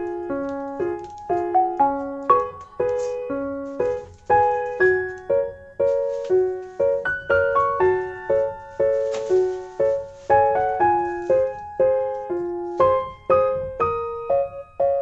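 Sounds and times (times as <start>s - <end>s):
calm piano melody: 0.0s - 15.0s.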